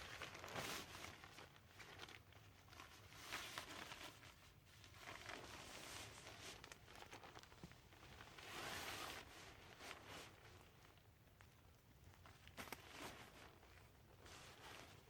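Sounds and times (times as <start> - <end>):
faint rustling and crinkling: 0.0 - 15.0.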